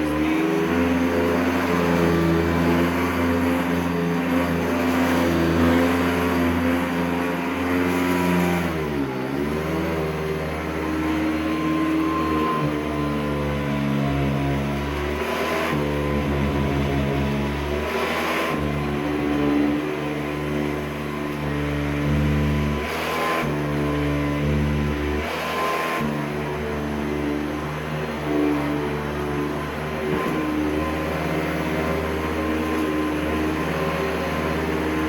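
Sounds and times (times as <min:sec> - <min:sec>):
upright vacuum cleaner whine: 0:00.0 - 0:35.0.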